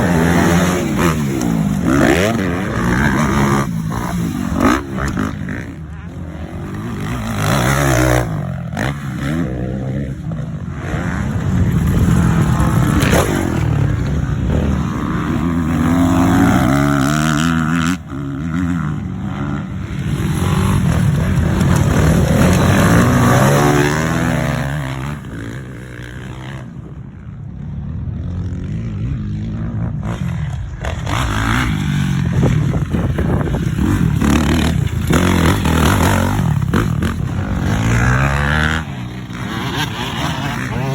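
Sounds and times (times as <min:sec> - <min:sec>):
dirt bike engine revving: 0:00.0 - 0:26.8, 0:28.2 - 0:40.9.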